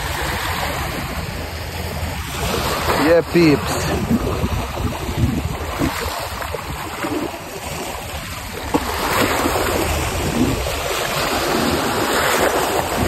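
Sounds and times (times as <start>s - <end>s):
small waves washing on rocks: 0.0s - 13.0s
wind buffeting microphone: 0.0s - 13.0s.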